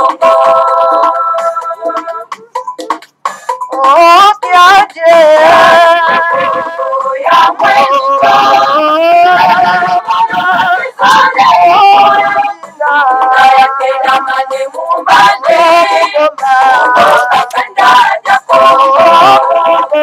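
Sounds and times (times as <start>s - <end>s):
voices singing a song: 0.0s - 2.5s, 3.7s - 20.0s.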